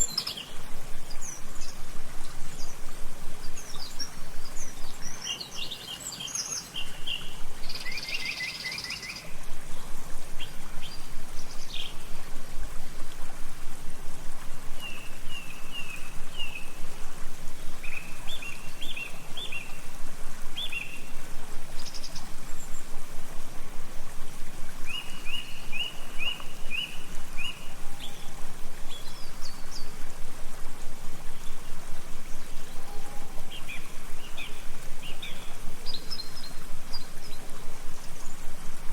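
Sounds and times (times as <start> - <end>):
outdoor ambience hiss: 0.0 - 38.9
songbirds chirping: 0.0 - 38.9.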